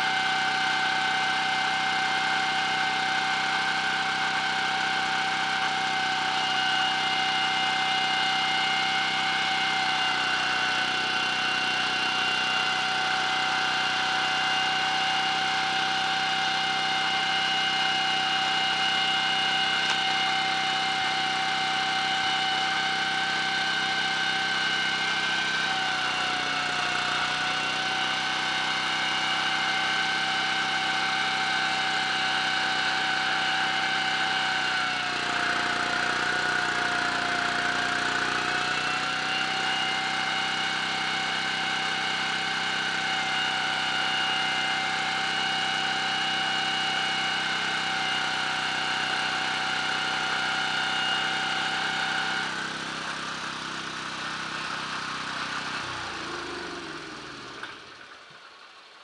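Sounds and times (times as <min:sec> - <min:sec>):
small petrol engine running: 0:00.0 - 0:58.5.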